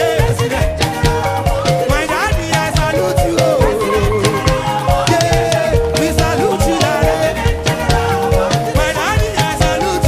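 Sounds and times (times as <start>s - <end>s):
fast drum rhythm: 0.0s - 10.0s
person singing: 0.0s - 10.0s
upbeat gospel music: 0.0s - 10.0s.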